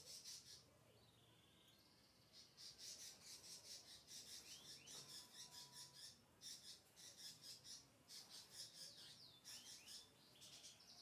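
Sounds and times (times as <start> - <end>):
lovebird chirping: 0.0 - 11.0.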